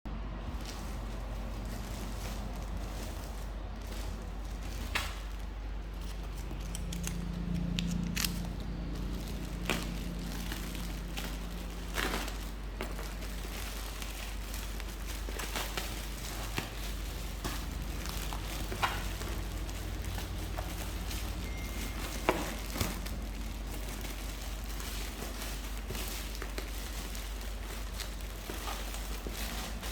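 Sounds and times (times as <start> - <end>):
steady low hum: 0.0 - 29.9
packaging crinkling: 0.5 - 29.9.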